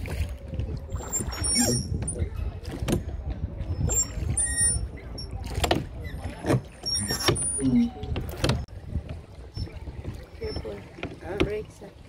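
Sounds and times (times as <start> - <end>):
oars splashing and knocking: 0.0 - 12.0
wind rumble on microphone: 0.0 - 12.0.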